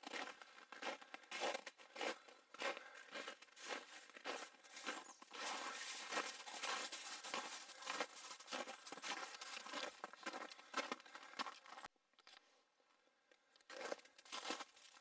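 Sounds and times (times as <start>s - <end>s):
footsteps crunching in snow: 0.0s - 11.9s, 13.8s - 15.0s.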